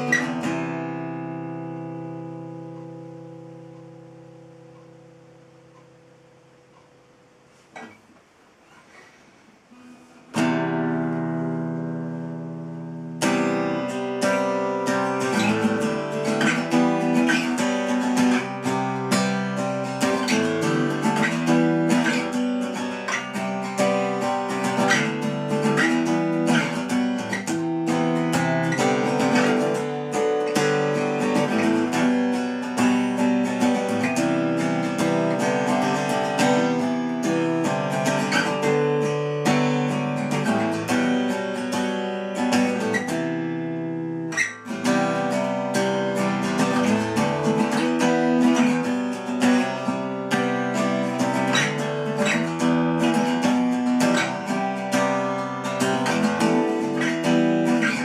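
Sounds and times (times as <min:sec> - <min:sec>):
acoustic guitar picked: 0:00.0 - 0:58.0.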